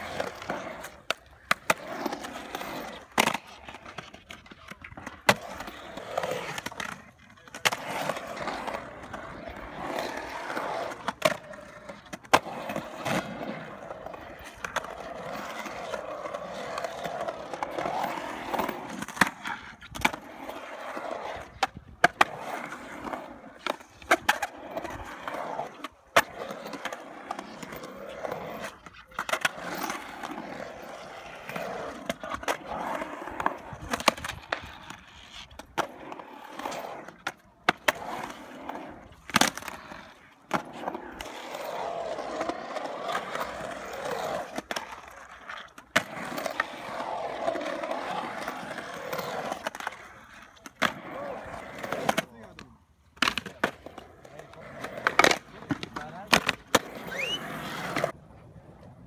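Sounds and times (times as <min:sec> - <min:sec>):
skateboard clacking on concrete: 0:00.0 - 0:58.2
skateboard wheels rolling on concrete: 0:00.0 - 0:59.0.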